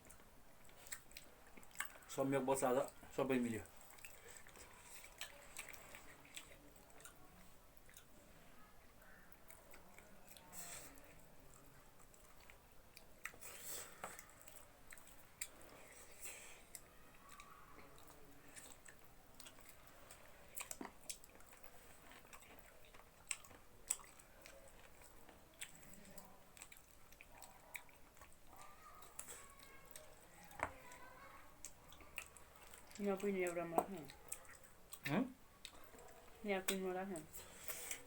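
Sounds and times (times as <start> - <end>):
people chewing: 0.0 - 38.0.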